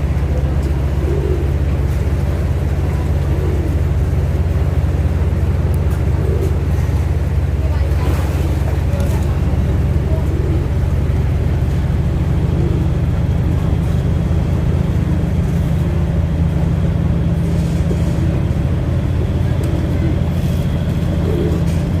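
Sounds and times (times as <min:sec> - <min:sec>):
tugboat engine droning: 0:00.0 - 0:22.0.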